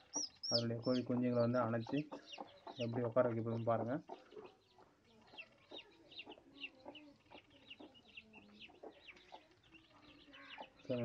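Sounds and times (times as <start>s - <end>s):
chicks peeping: 0.0s - 11.0s
hen clucking softly: 0.0s - 11.0s.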